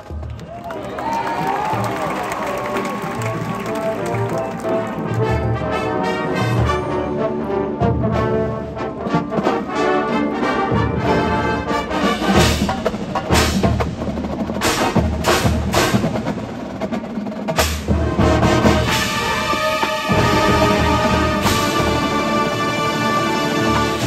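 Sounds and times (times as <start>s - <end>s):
drum and bugle corps playing: 0.0s - 24.0s.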